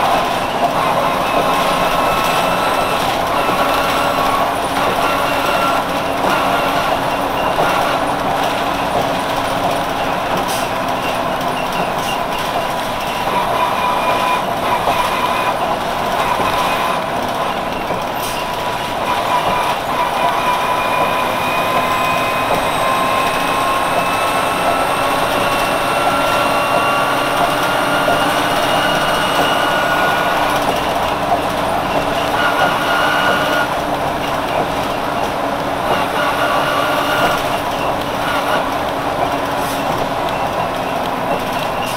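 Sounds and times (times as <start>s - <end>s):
bus engine running: 0.0s - 41.9s.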